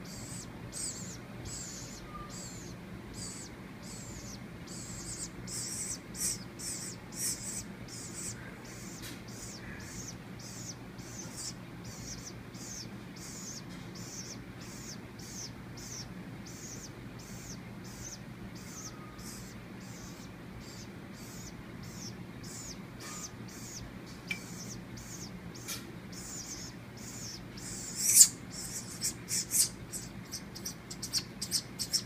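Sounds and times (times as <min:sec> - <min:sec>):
baby woodpecker hissing call: 0:00.0 - 0:32.0.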